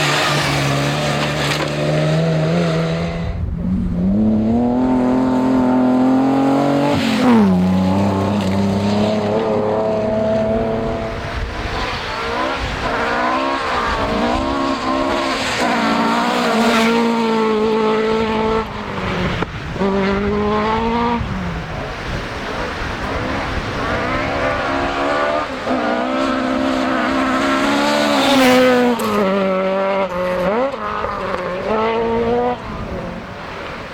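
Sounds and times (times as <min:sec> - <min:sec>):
rally car engines running hard: 0:00.0 - 0:33.9.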